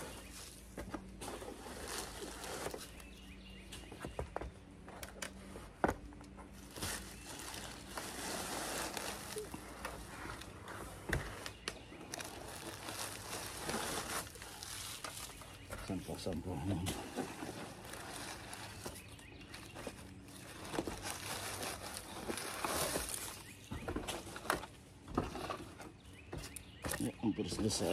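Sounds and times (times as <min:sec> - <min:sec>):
leaves rustling and crinkling: 0:00.0 - 0:04.0, 0:04.7 - 0:27.9.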